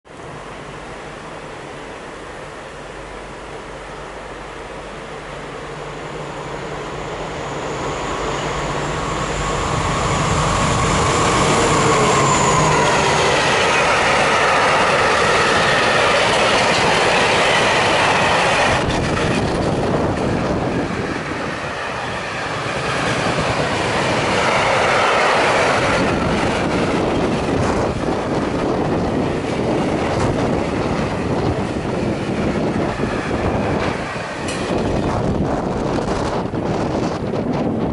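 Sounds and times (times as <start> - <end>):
diesel locomotive engine hum: 0.1 - 37.9
freight wagons rumbling on rails: 5.7 - 37.9.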